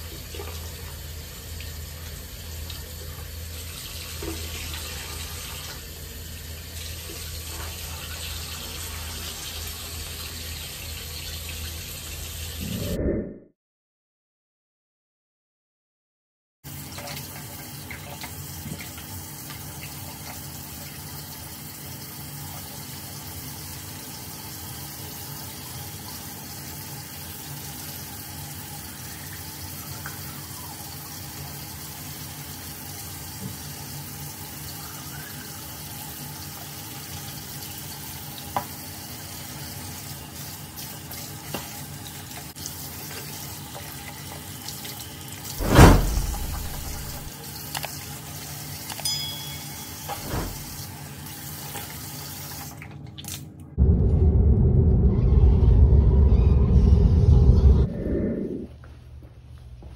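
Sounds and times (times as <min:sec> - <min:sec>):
tap water running: 0:00.0 - 0:12.6, 0:16.7 - 0:45.6, 0:46.3 - 0:53.4.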